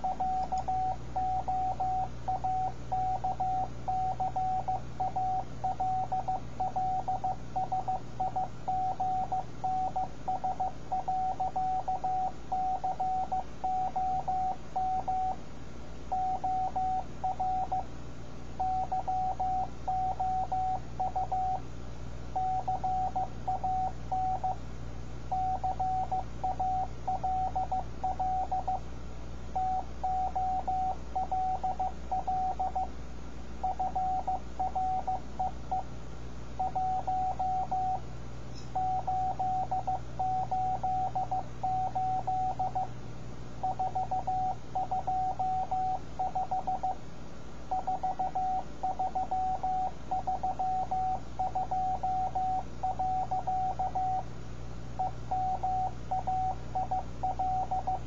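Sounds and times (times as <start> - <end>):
morse code beeps: 0.0 - 15.4, 16.1 - 17.9, 18.6 - 21.6, 22.4 - 24.6, 25.3 - 28.8, 29.6 - 32.9, 33.6 - 35.9, 36.6 - 38.0, 38.6 - 42.9, 43.6 - 47.0, 47.7 - 54.2, 55.0 - 58.0
low steady hum: 0.0 - 58.0.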